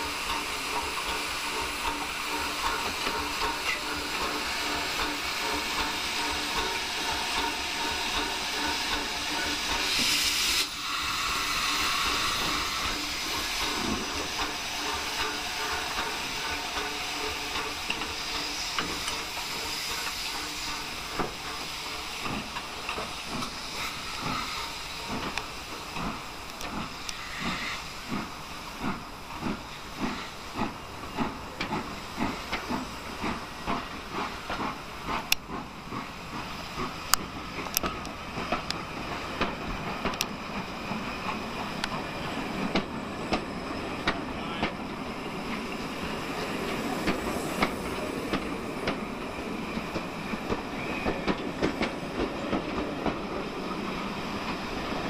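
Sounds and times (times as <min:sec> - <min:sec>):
steam hissing: 0:00.0 - 0:55.0
steam locomotive exhaust chuffs: 0:00.0 - 0:55.0.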